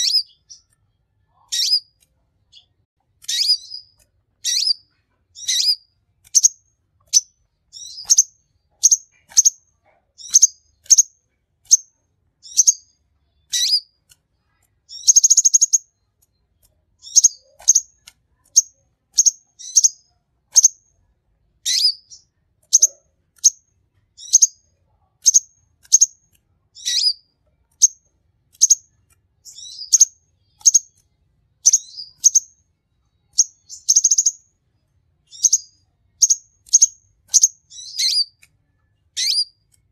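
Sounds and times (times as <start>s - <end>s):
buzzy bird trill: 0.0s - 14.0s, 14.9s - 16.0s, 17.0s - 20.8s, 21.6s - 23.6s, 24.2s - 24.6s, 25.2s - 28.0s, 28.6s - 32.6s, 33.2s - 34.4s, 35.3s - 38.4s, 39.1s - 39.6s
bird chirping: 0.0s - 21.0s, 21.6s - 39.9s.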